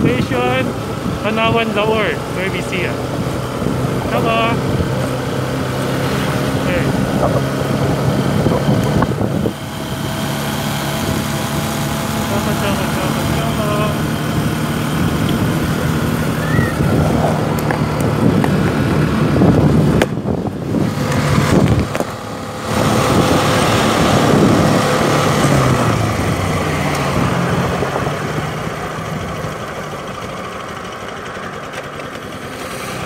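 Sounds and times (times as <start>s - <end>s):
motorcycle engine running: 0.0s - 33.0s
wind and road noise: 0.0s - 33.0s.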